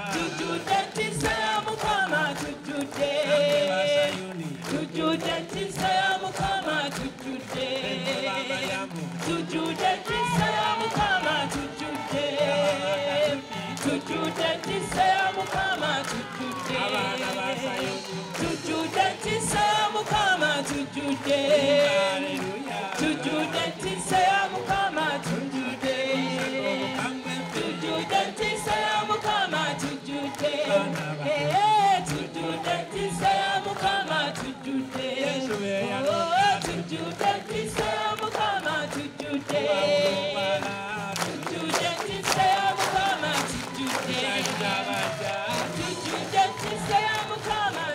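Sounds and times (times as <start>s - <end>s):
choir and congregation singing: 0.0s - 47.9s
man singing into a microphone: 0.0s - 47.9s
rhythmic hand clapping: 0.0s - 47.9s.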